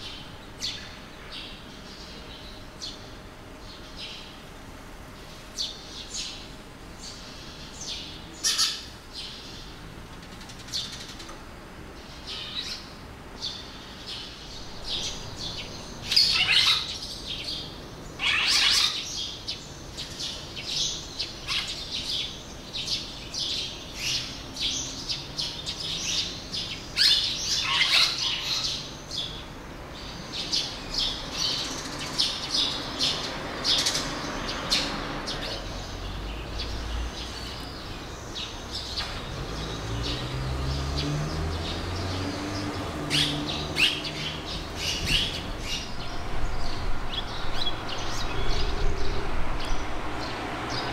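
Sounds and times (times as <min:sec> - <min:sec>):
swallows chirping and twittering: 0:00.0 - 0:04.5, 0:05.1 - 0:50.9.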